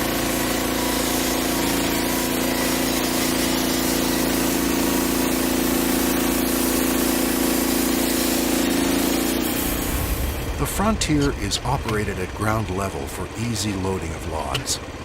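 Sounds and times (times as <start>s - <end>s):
gasoline engine droning: 0.0s - 15.0s.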